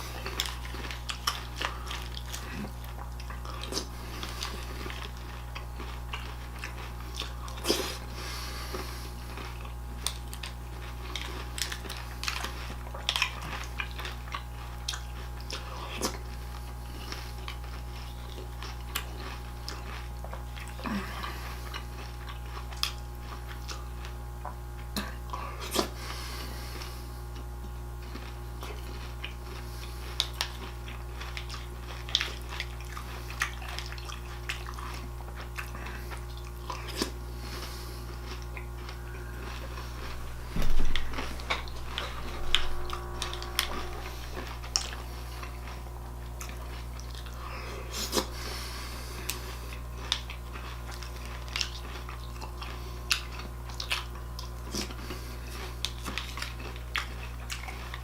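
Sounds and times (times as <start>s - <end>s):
crunchy cereal being chewed: 0.0s - 58.0s
steady low hum: 0.0s - 58.0s.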